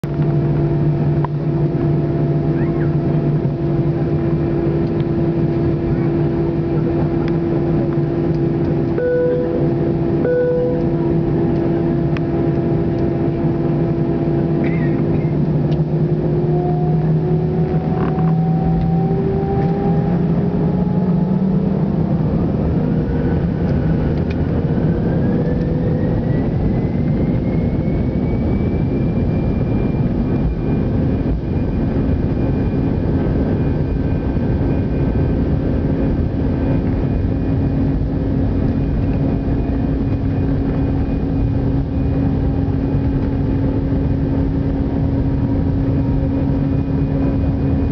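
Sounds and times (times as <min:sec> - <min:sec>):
jet engines spooling up: 0:00.1 - 0:47.9.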